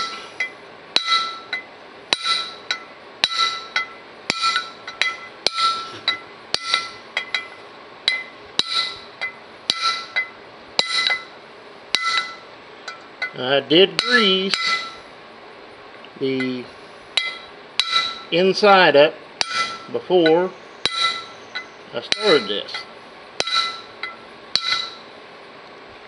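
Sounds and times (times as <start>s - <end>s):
hammer tapping metal punch: 0.0s - 13.4s, 14.0s - 15.0s, 17.2s - 18.4s, 19.4s - 25.1s.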